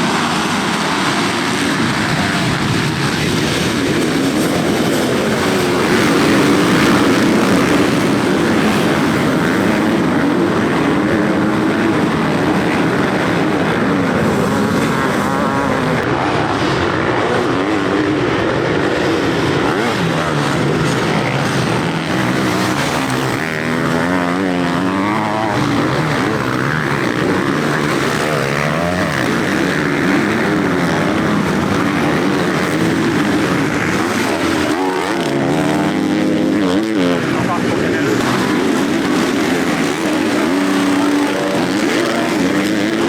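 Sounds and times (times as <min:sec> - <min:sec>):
motocross bikes revving: 0:00.0 - 0:43.0.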